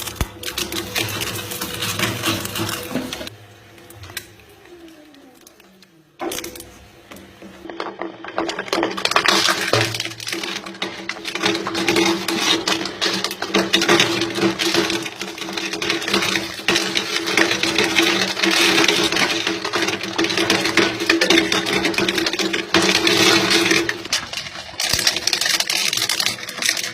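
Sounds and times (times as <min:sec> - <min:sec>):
object crackling and snapping: 0:00.0 - 0:03.3, 0:07.6 - 0:26.9
crushing machine motor hum: 0:00.0 - 0:26.9.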